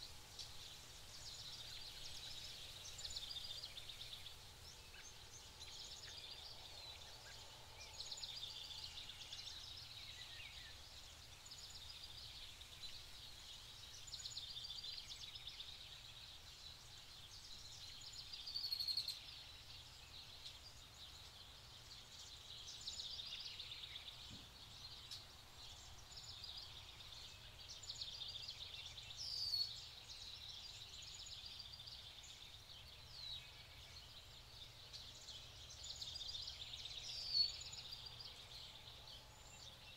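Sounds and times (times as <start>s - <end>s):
birds singing and trilling: 0.0s - 39.9s.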